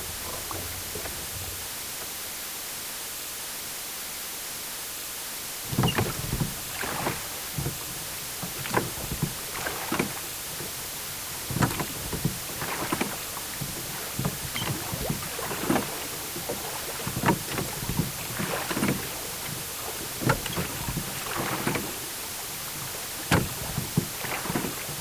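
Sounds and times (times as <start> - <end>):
water lapping and splashing: 0.0 - 2.6, 5.6 - 25.0.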